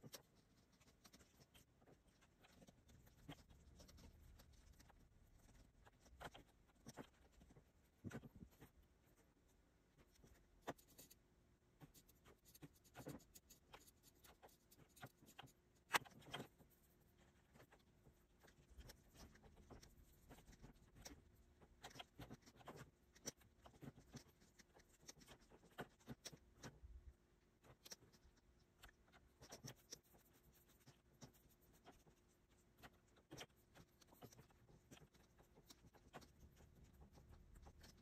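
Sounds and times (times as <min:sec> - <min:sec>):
stylus tapping and scratching: 0:00.0 - 0:38.0.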